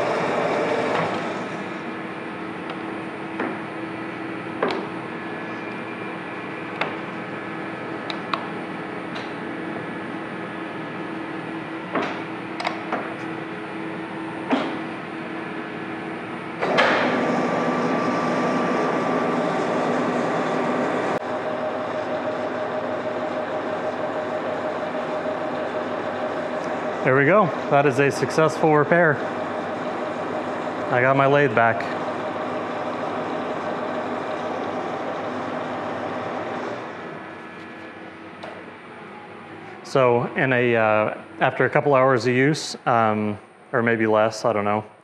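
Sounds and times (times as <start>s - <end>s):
lathe spindle running: 0.0s - 41.4s
steady motor hum: 0.0s - 45.0s.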